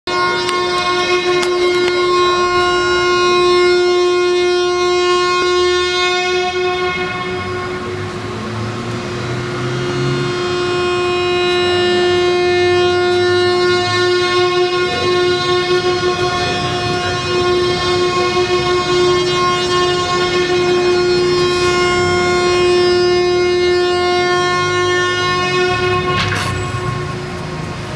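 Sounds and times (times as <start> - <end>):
sustained droning tone: 0.1 - 27.9.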